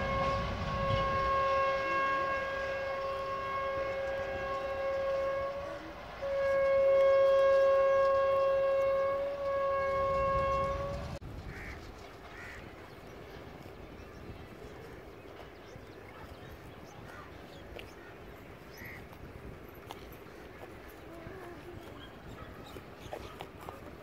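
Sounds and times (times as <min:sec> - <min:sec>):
train horn blasts: 0:00.0 - 0:11.7, 0:14.6 - 0:24.0.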